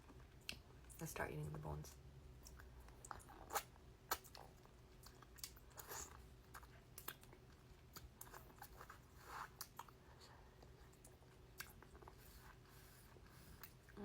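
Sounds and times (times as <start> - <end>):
chewing and gnawing on meat: 2.2 - 14.0.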